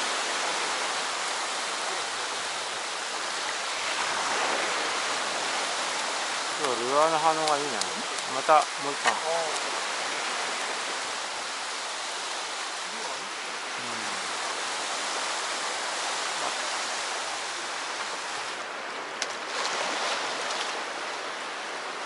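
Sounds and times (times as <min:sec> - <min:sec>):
sea surf washing ashore: 0:00.0 - 0:22.0.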